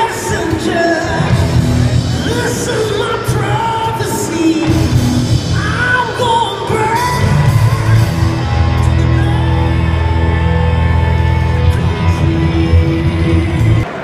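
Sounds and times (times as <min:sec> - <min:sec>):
crowd noise: 0:00.0 - 0:14.0
music with singing over loudspeakers: 0:00.0 - 0:14.0.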